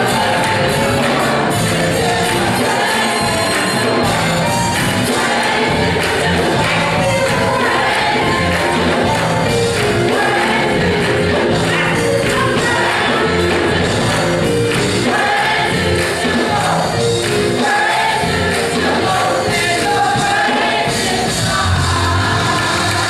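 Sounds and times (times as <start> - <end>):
gospel choir singing: 0.0 - 23.0.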